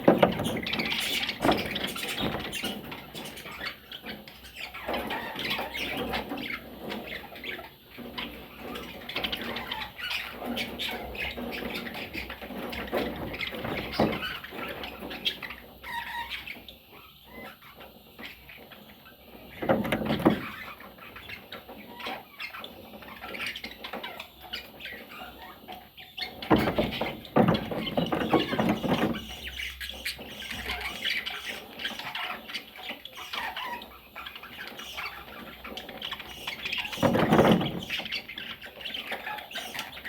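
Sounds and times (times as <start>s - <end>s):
budgerigar chicks chattering: 0.0s - 40.0s.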